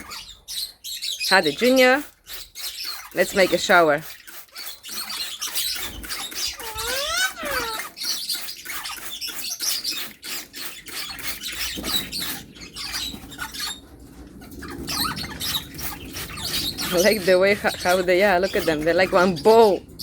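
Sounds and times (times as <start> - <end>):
parrots chirping: 0.0 - 20.0.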